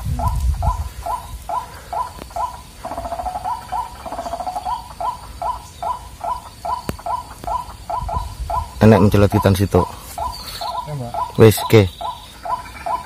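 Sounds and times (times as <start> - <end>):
bird croaking calls: 0.0 - 13.0.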